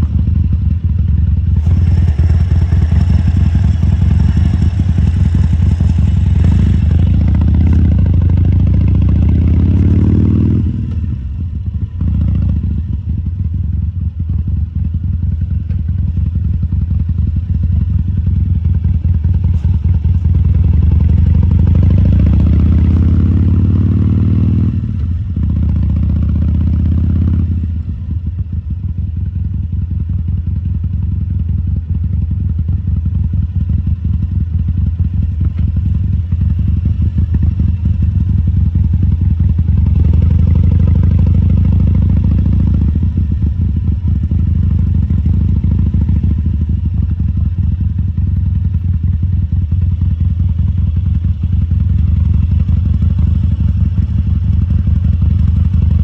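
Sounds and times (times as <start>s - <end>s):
motorcycle engine revving: 0.0s - 13.7s, 15.8s - 29.5s, 32.1s - 56.0s.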